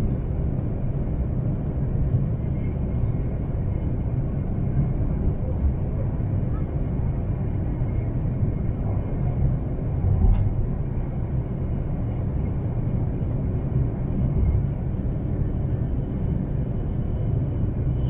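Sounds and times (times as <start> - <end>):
train running rumble from inside cabin: 0.0 - 18.0.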